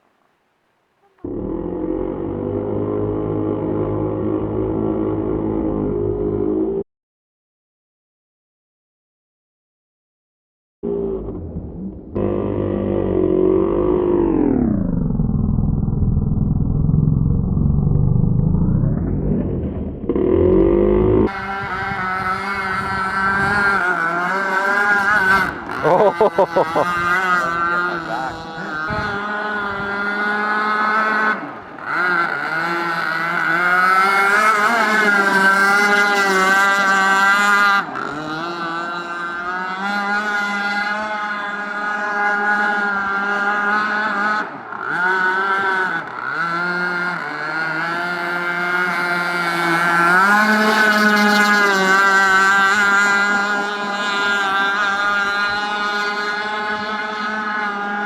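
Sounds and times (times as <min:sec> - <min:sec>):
model boat gas engine buzzing: 0:01.0 - 0:06.8, 0:10.8 - 0:58.0.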